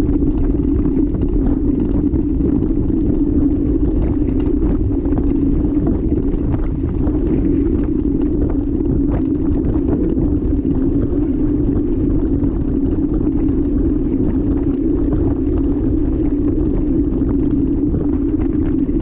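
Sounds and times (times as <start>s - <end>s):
bike rattling over bumps: 0.0s - 19.0s
wind rumble: 0.0s - 19.0s.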